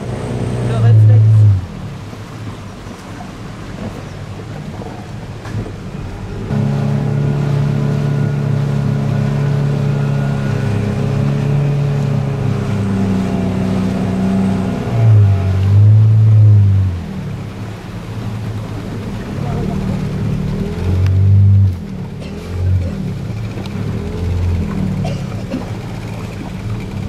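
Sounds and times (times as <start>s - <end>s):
motorboat engine running: 0.0s - 27.0s.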